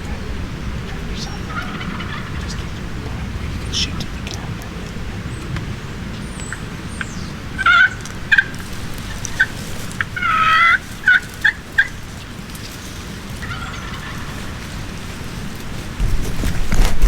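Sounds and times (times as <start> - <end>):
turkey calling: 0.0 - 16.0.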